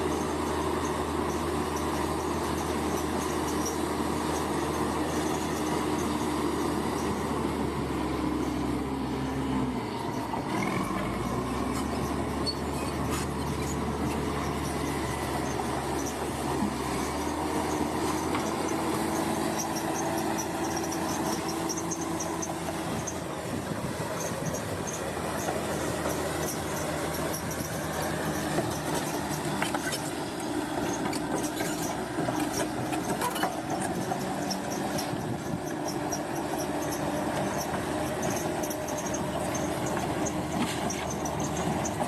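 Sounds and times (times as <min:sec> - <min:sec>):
heavy machinery diesel engine: 0:00.0 - 0:42.0.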